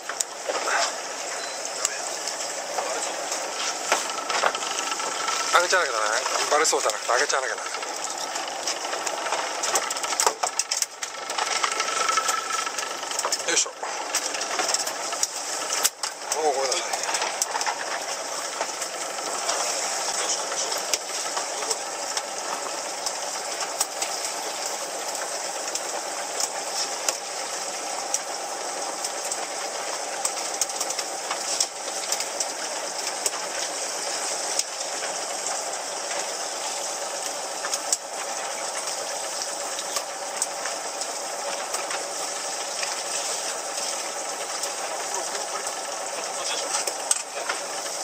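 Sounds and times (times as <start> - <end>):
boat engine running: 0.0 - 48.0
wind and water hiss: 0.0 - 48.0.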